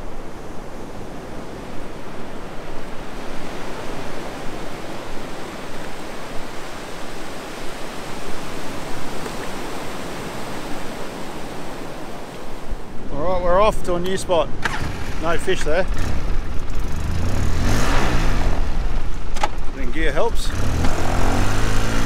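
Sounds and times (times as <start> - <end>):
ocean waves breaking on beach: 0.0 - 22.0.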